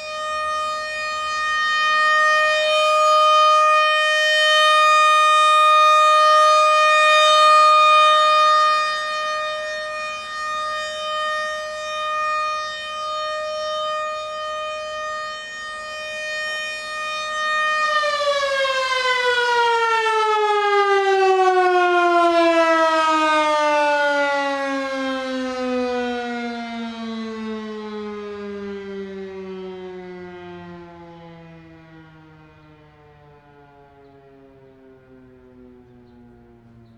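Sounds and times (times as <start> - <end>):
siren winding down: 0.0 - 36.9
warning siren steady tone: 0.0 - 36.9.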